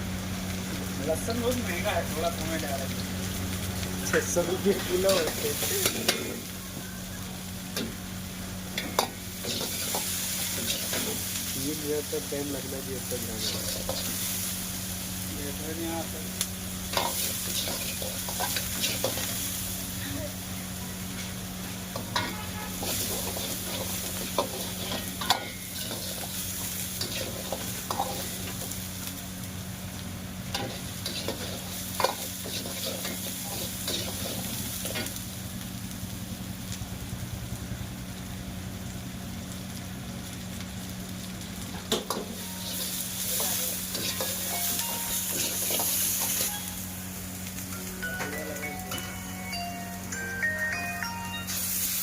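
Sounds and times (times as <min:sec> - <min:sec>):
chicken sizzling in oil: 0:00.0 - 0:52.0.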